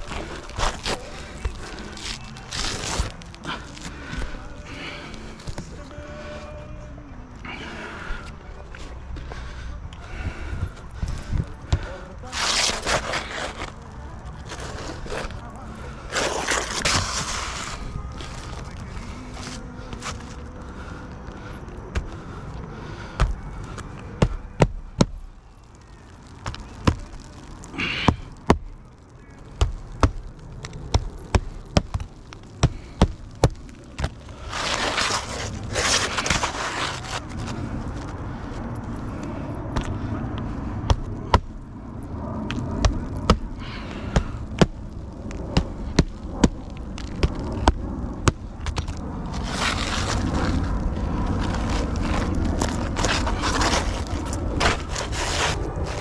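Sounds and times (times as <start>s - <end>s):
scraping on shingles: 0.0s - 6.6s, 7.5s - 41.7s, 42.4s - 56.0s.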